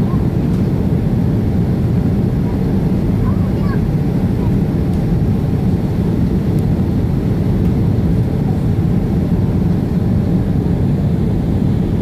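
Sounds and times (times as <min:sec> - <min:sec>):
airliner engines rumbling: 0:00.0 - 0:12.0.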